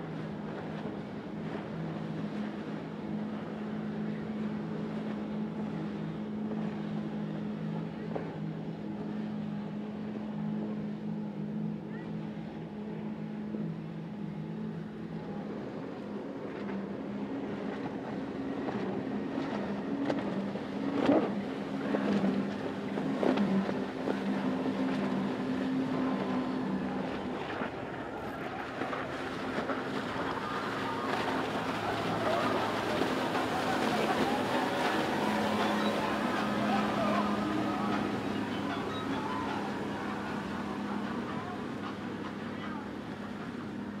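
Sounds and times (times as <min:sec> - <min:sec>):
motorboat engine droning: 0:00.0 - 0:44.0
water noise: 0:00.0 - 0:44.0
wind: 0:00.0 - 0:44.0.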